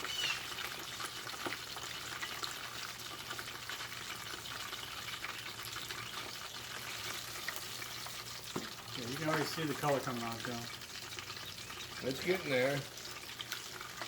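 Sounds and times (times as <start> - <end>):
sausages sizzling in hot oil: 0.0 - 14.0.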